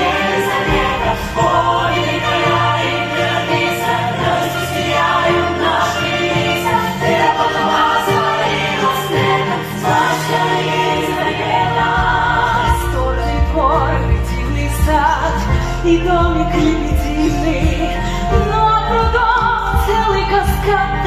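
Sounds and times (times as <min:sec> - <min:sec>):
chorus singing: 0:00.0 - 0:21.0
instrumental music: 0:00.0 - 0:21.0.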